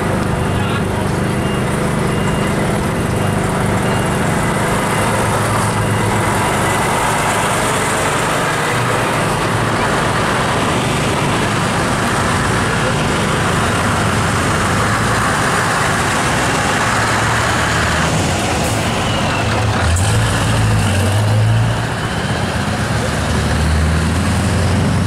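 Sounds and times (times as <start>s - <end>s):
diesel truck engine pulling away: 0.0s - 25.0s.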